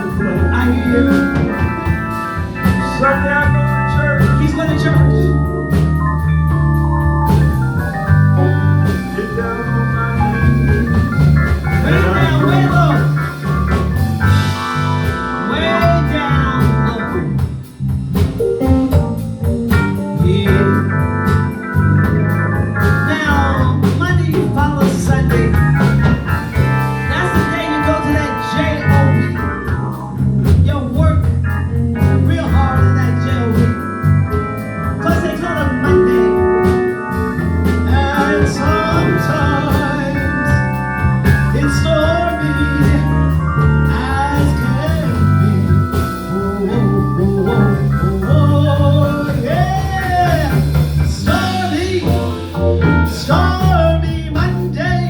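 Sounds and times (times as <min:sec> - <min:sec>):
live blues band instrumental: 0:00.0 - 0:55.0.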